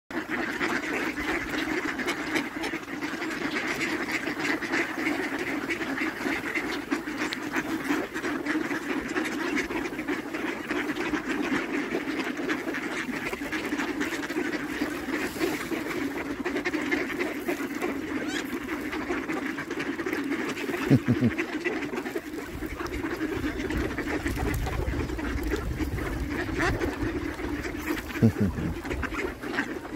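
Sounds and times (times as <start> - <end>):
flock of ducks quacking: 0.1 - 29.9.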